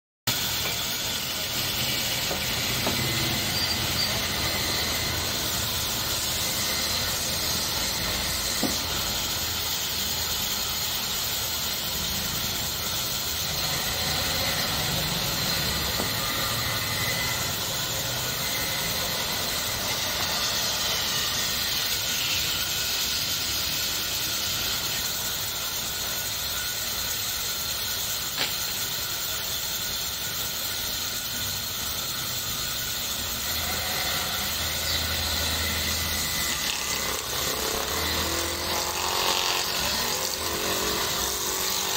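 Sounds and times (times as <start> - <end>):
machinery hissing: 0.3 - 38.6.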